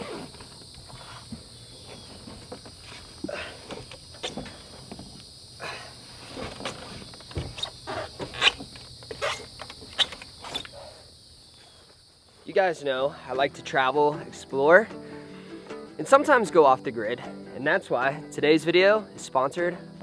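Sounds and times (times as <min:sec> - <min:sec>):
high insect buzz: 0:00.0 - 0:20.0.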